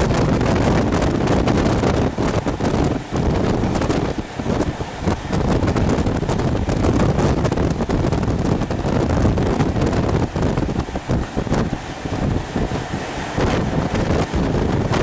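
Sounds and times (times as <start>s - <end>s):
train coaches rumbling on track: 0.0s - 15.0s
wind buffeting a microphone: 0.0s - 15.0s.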